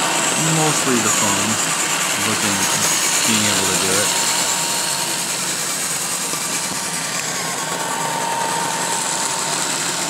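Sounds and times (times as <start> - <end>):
robot vacuum cleaner whirring: 0.0 - 10.0.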